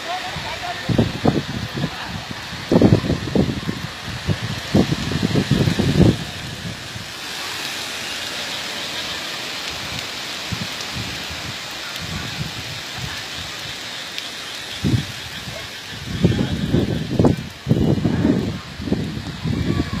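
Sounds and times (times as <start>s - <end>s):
wind and rain hiss: 0.0s - 20.0s
wind gusts buffeting microphone: 0.0s - 20.0s.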